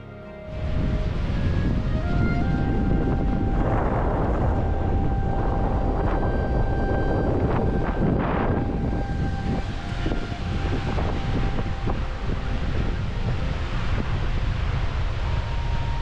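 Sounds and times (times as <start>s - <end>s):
waterfall roaring: 0.5s - 16.0s.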